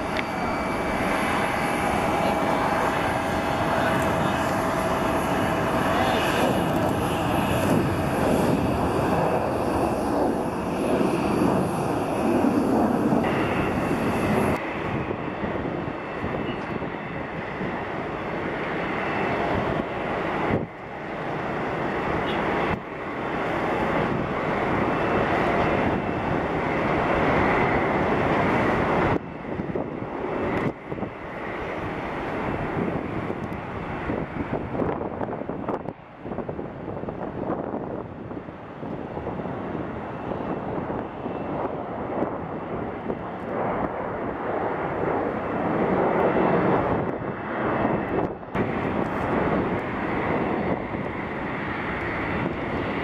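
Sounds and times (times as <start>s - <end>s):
jet engines roaring: 0.0s - 53.0s.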